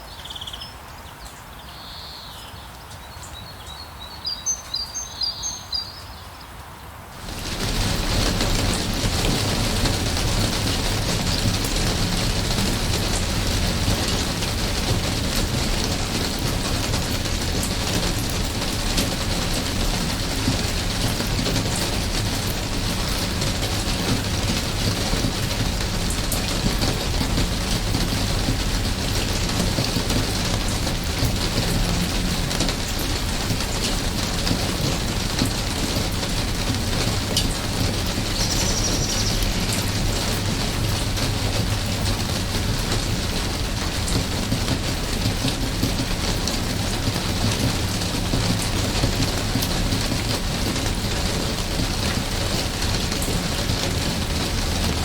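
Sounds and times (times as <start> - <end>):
steady rainfall: 2.6 - 55.0.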